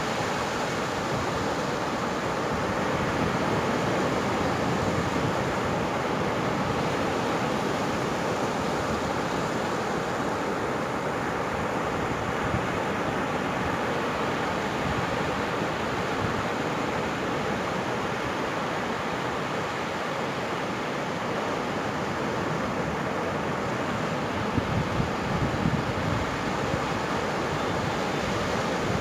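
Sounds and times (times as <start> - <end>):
waves breaking on beach: 0.0 - 29.0.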